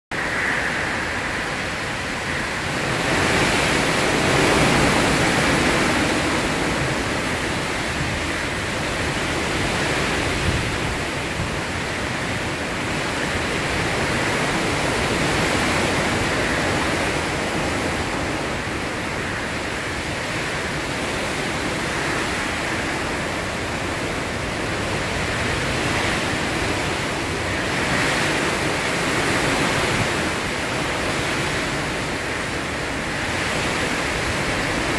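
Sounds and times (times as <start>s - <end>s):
gusting wind: 0.1s - 34.9s
heavy rain: 0.1s - 34.9s.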